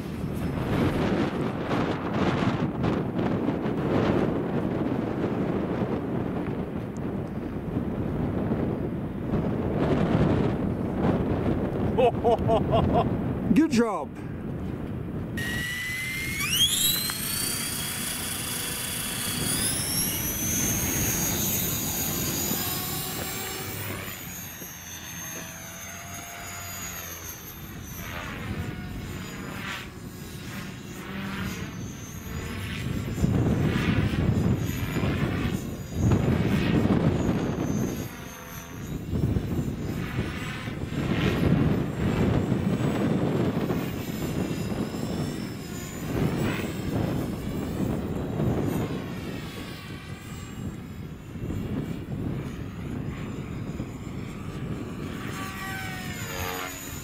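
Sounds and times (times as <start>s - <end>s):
wind buffeting microphone: 0.0s - 26.9s, 27.6s - 57.0s
model airplane motor whine: 0.0s - 57.0s.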